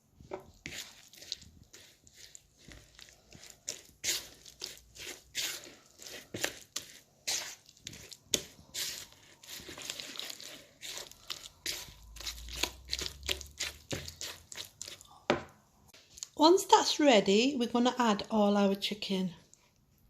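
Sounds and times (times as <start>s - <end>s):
marinade stirred in a bowl: 0.0s - 16.4s.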